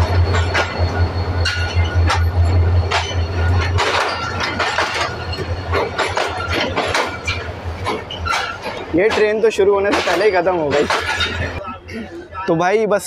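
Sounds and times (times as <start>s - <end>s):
diesel locomotive engine drone: 0.0s - 12.7s
train wheels and couplings clicking: 0.0s - 13.0s.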